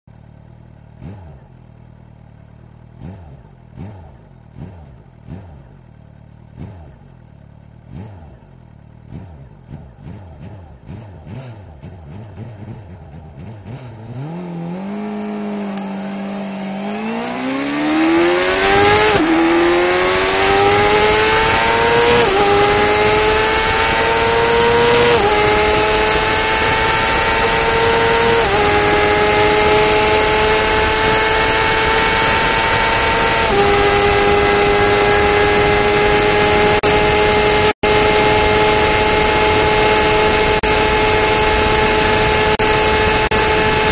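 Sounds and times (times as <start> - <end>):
motorcycle engine revving: 0.1 - 43.9.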